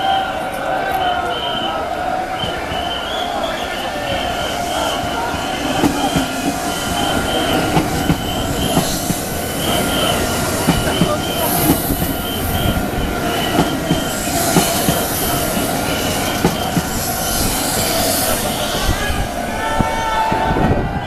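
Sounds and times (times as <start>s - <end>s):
train wheels clicking on rails: 2.3s - 19.2s.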